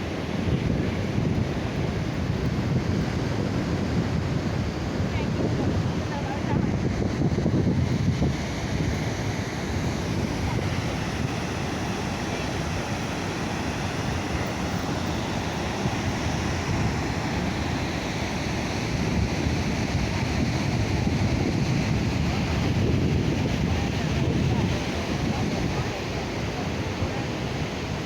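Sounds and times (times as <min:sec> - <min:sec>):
waterfall rushing: 0:00.0 - 0:28.0
wind buffeting microphone: 0:00.0 - 0:28.0.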